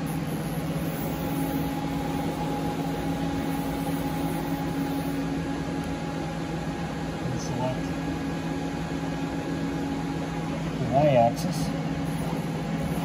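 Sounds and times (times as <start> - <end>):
lathe machine hum: 0.0 - 13.0
low machine tones: 0.0 - 13.0.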